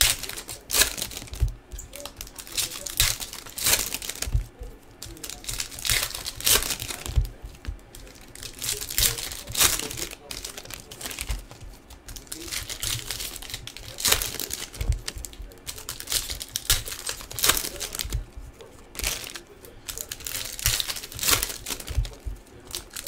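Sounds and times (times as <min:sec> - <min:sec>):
foil wrappers crinkling and tearing: 0:00.0 - 0:23.0.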